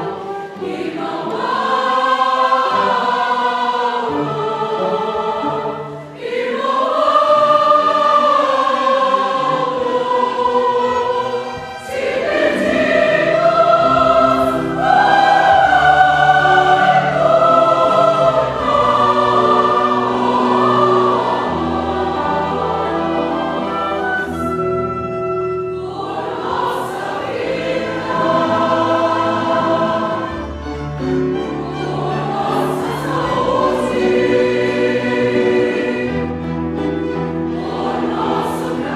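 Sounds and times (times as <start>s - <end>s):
choir singing a sacred song: 0.0s - 38.9s
instrumental accompaniment: 0.0s - 38.9s.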